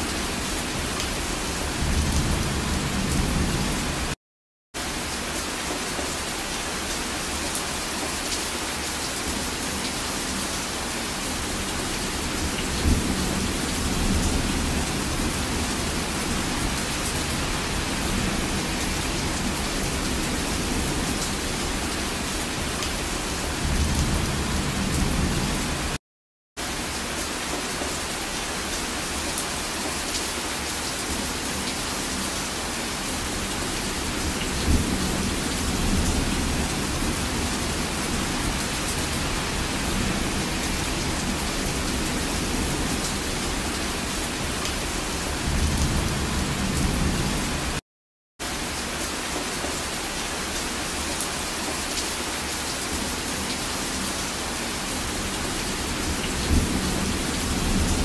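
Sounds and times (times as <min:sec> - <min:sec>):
heavy rain falling: 0:00.0 - 0:04.2, 0:04.8 - 0:26.0, 0:26.6 - 0:47.8, 0:48.4 - 0:58.0.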